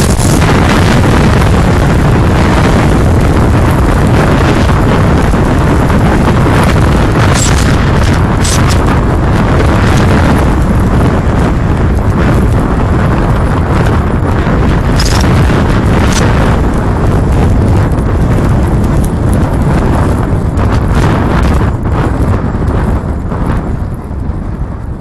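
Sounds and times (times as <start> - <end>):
strong wind buffeting microphone: 0.0 - 25.0.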